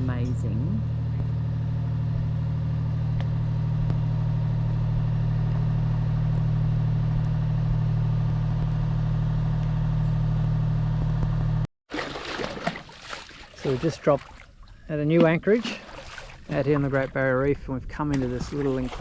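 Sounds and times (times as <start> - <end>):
boat diesel engine running: 0.0 - 11.7, 13.6 - 19.0.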